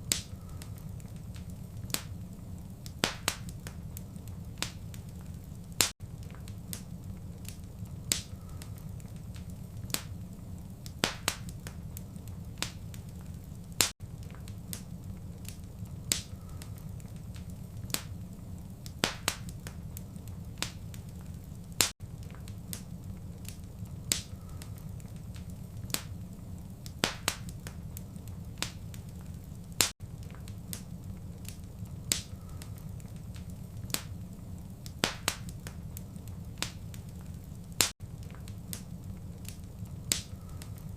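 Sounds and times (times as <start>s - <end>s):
low rumble of flame: 0.0s - 40.9s
sharp pops and snaps of fire: 0.0s - 40.9s
wood fire crackling: 0.0s - 40.9s.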